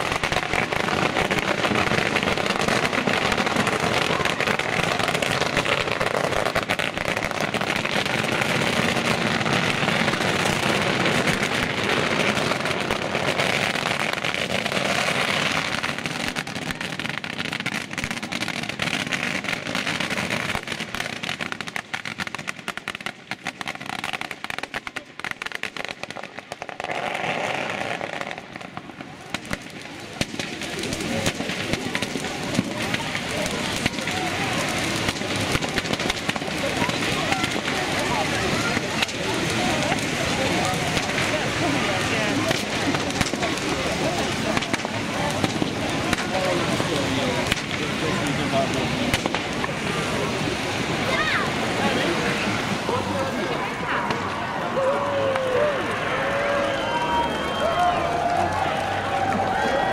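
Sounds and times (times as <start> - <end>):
firework sparks crackling hiss: 0.0 - 59.9.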